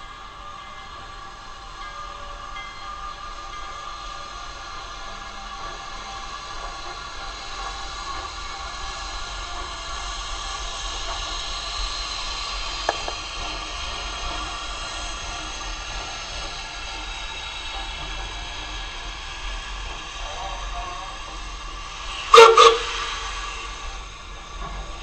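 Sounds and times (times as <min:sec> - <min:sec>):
steam hissing: 0:00.0 - 0:25.0
steam locomotive rolling past: 0:00.0 - 0:25.0.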